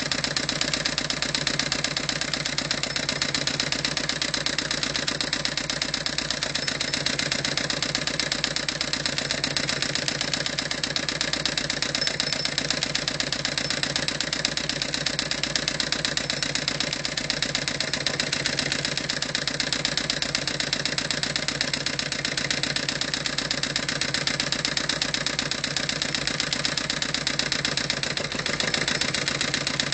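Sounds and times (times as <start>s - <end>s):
stirling engine clattering: 0.0s - 29.9s.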